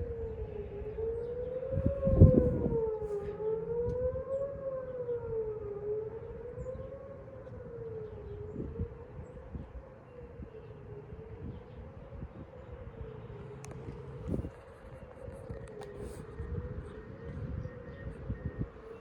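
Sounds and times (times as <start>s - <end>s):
warning sirens wailing: 0.0s - 19.0s.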